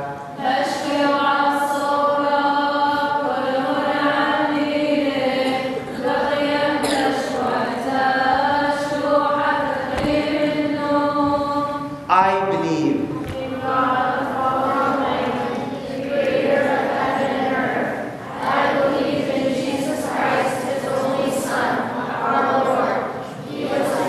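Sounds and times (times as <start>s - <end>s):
liturgical chant: 0.0s - 24.0s.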